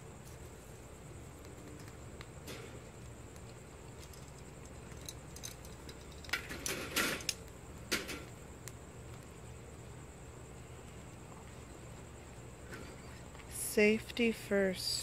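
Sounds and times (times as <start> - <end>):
fire crackling: 0.0 - 13.6.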